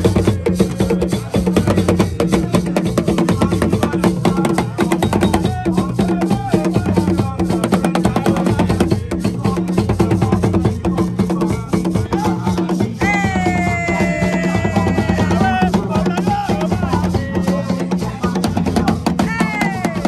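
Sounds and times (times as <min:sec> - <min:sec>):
drum ensemble playing: 0:00.0 - 0:20.0
man chanting: 0:00.0 - 0:20.0.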